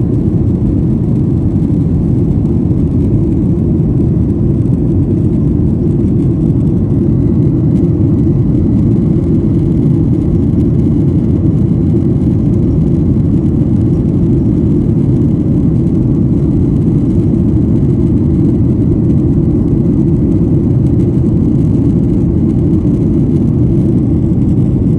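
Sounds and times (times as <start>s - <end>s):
airliner cabin engine noise: 0.0s - 24.9s.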